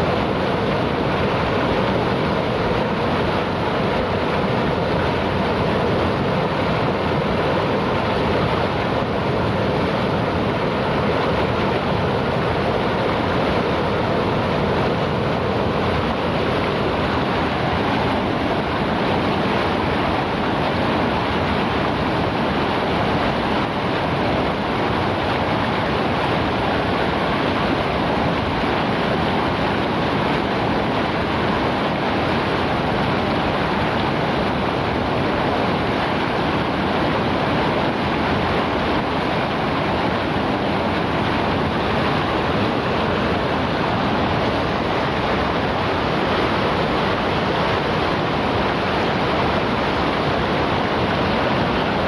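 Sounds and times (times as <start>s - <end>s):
river flowing: 0.0s - 52.0s.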